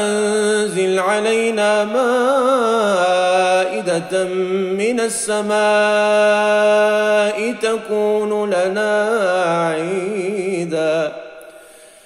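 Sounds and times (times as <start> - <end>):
man reciting melodically: 0.0 - 11.4.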